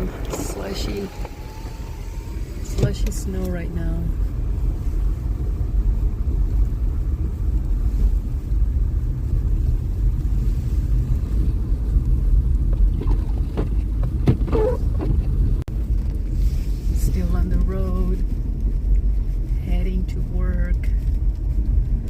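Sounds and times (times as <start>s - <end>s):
tyre noise on slushy road: 0.0s - 22.0s.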